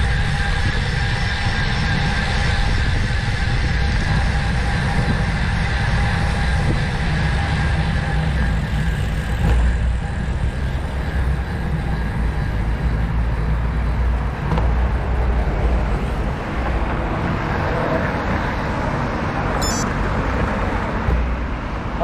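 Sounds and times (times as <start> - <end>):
road noise: 0.0 - 22.0
wind rumbling on microphone: 0.0 - 22.0.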